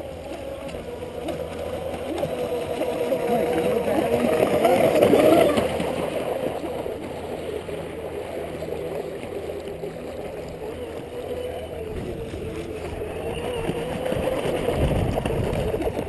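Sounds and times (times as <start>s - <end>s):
rc speedboat motor whine: 0.0s - 16.0s.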